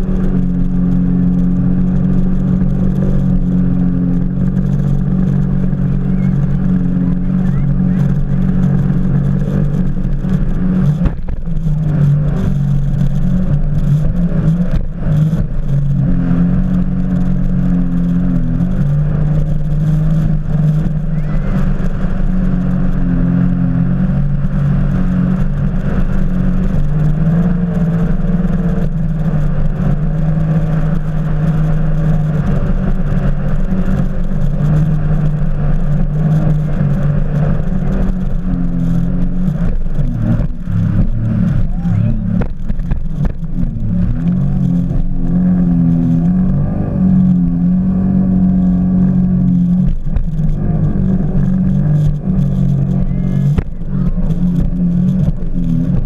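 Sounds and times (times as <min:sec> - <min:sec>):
jet ski engine running: 0:00.0 - 0:56.0.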